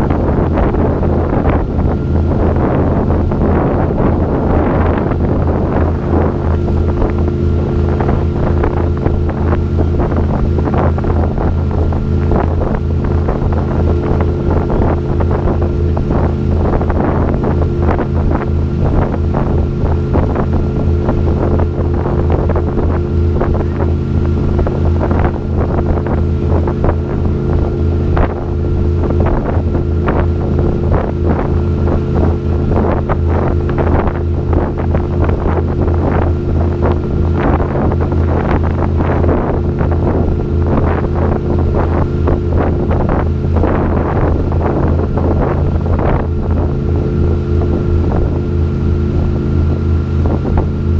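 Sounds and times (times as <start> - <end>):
boat engine droning: 0.0 - 50.9
water rushing in wake: 0.0 - 50.9
wind buffeting microphone: 0.0 - 50.9.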